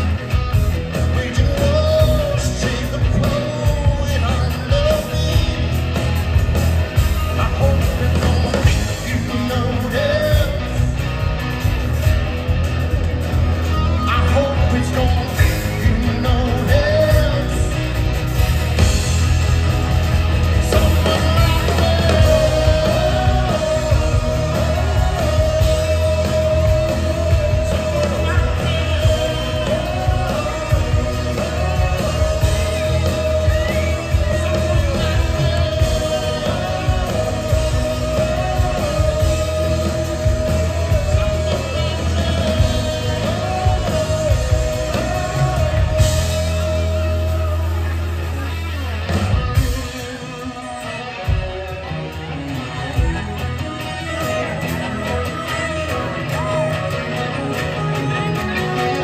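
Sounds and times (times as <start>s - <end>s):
live band playing: 0.0s - 59.0s
person singing: 0.9s - 6.0s, 7.0s - 11.0s, 13.6s - 18.0s, 20.5s - 59.0s.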